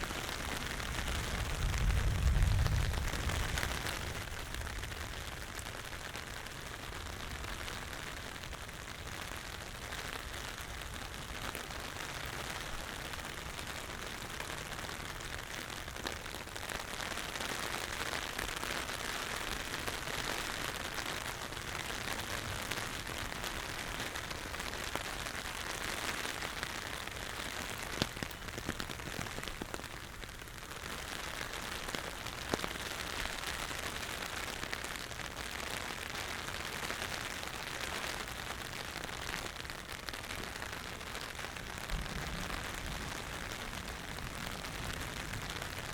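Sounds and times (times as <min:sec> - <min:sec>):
raindrops ticking close by: 0:00.0 - 0:45.9
steady rain falling: 0:00.0 - 0:45.9.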